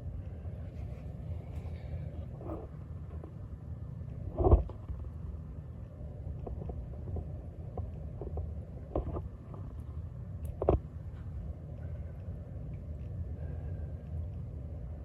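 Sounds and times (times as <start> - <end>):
humidifier humming: 0.0 - 15.0.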